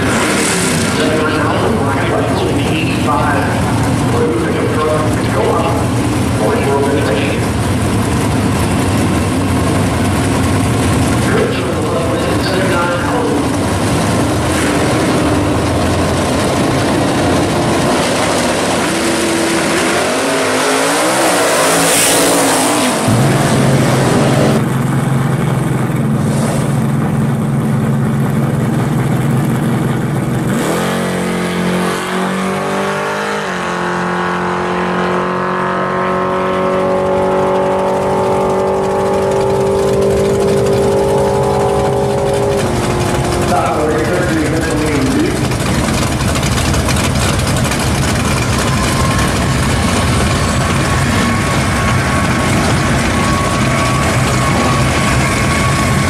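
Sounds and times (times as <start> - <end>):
car engine revving: 0.0 - 56.0
drag racing cars roaring: 0.0 - 56.0
engine idling: 0.8 - 19.9, 23.0 - 30.7, 37.1 - 56.0.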